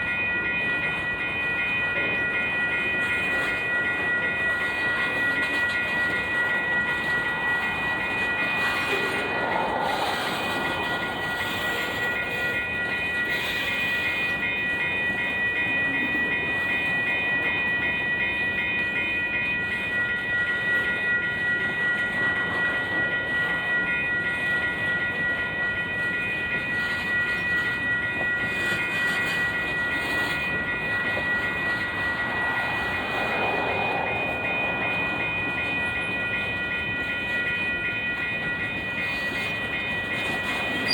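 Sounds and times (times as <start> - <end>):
freight train cars rolling: 0.0 - 40.9
steady high-pitched tones: 0.0 - 40.9.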